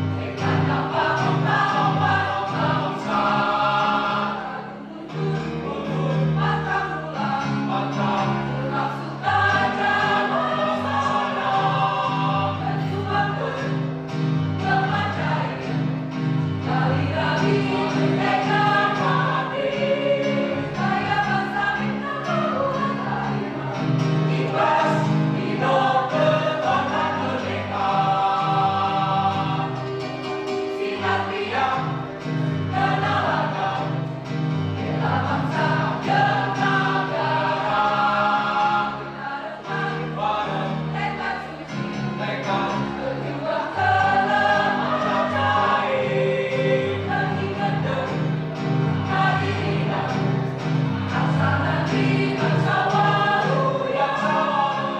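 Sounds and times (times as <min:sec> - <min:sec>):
mixed choir singing: 0:00.0 - 0:54.9.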